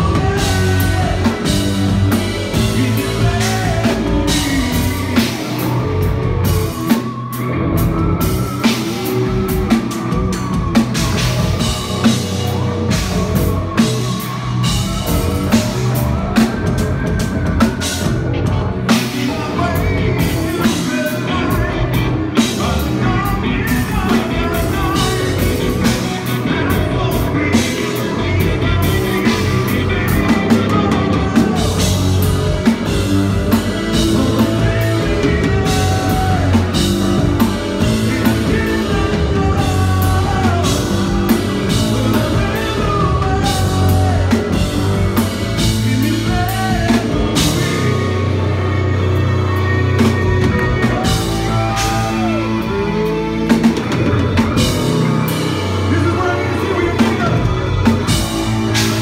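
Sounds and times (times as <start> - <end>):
bass guitar: 0.0 - 59.0
drum kit: 0.0 - 59.0
electric guitar: 0.0 - 59.0
man singing: 0.0 - 59.0.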